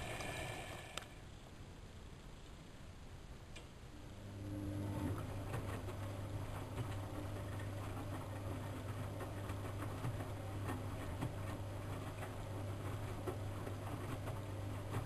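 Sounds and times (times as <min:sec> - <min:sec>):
washing machine humming: 0:00.0 - 0:01.4, 0:03.5 - 0:15.0.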